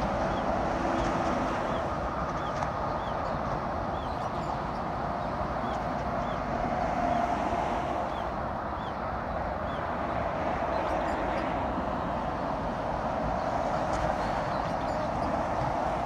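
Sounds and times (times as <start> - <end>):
traffic rushing: 0.0 - 16.0.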